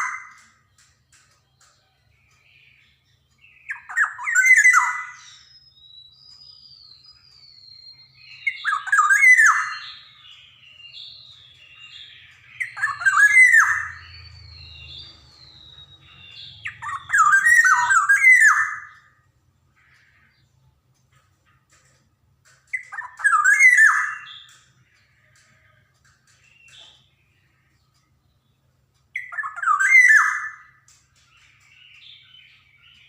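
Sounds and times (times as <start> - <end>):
bird harsh squawking calls: 0.0 - 0.7, 3.5 - 20.6, 22.7 - 28.0, 29.2 - 33.0.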